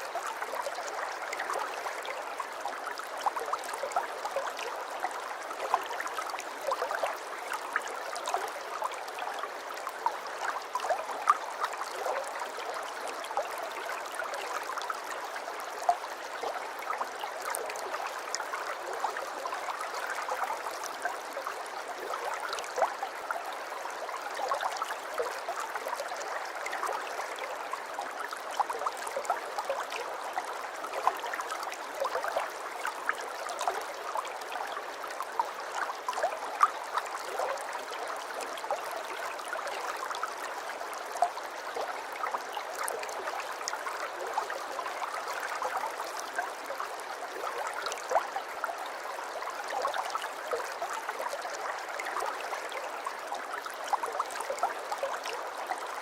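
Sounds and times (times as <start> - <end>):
aquarium water trickling and bubbling: 0.0 - 56.0.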